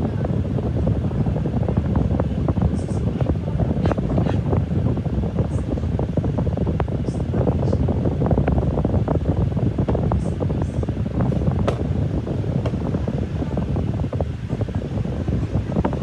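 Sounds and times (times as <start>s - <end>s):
low rumbling air noise: 0.0s - 16.0s.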